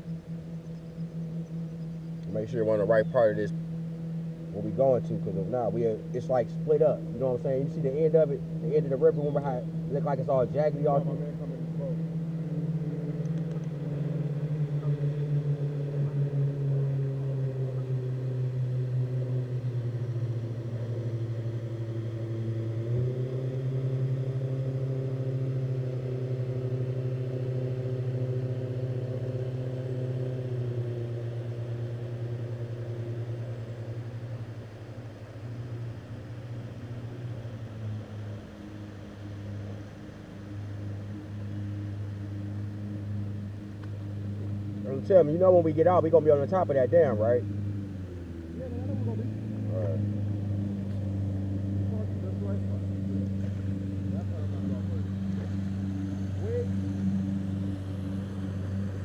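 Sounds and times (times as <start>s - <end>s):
boat motor humming: 0.0s - 59.0s.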